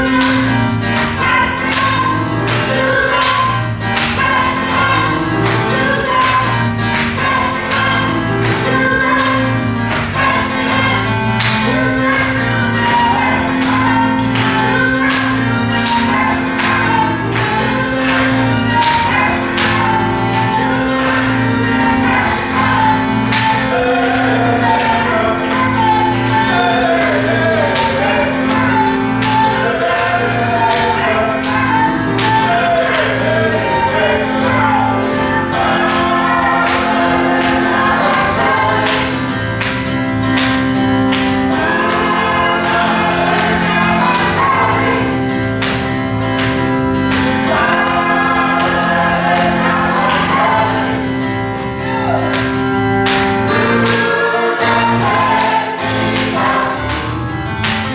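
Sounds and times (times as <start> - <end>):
bass and keyboard notes: 0.0 - 57.9
gospel choir singing: 0.0 - 57.9.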